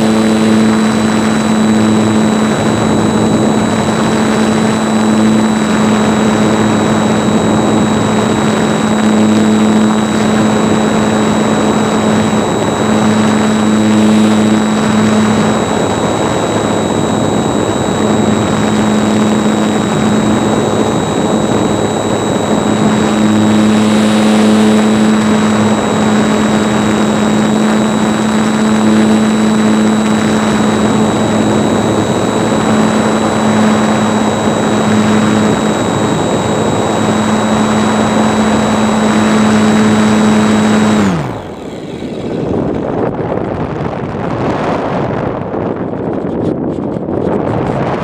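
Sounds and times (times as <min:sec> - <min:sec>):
model airplane motor and propeller: 0:00.0 - 0:48.0
wind rushing past microphone: 0:00.0 - 0:48.0.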